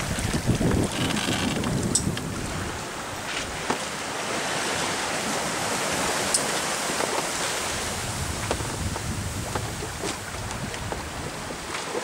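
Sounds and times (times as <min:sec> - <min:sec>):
wind buffeting microphone: 0:00.0 - 0:06.3, 0:07.6 - 0:11.8
water rushing along hull: 0:00.0 - 0:12.0.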